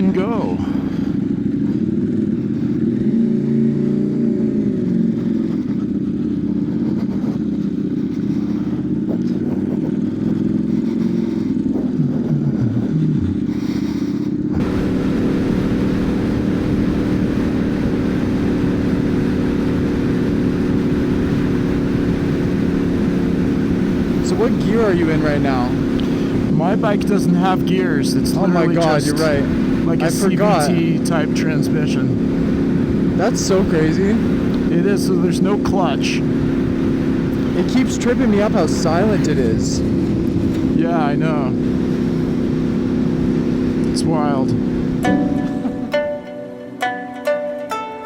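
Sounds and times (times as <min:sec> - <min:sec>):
motorcycle engine: 0:00.0 - 0:46.8.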